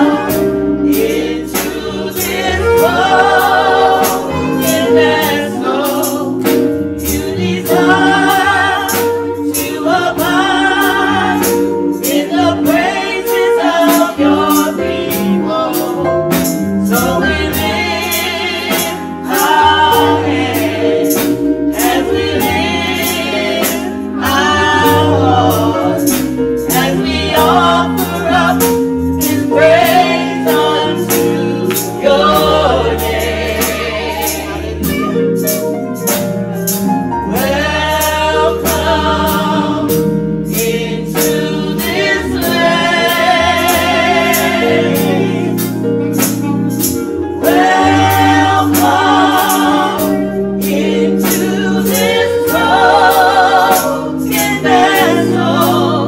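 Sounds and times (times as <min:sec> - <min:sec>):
steady beat: 0:00.0 - 0:55.9
gospel choir singing: 0:00.0 - 0:56.0
held instrumental chords: 0:00.0 - 0:56.0.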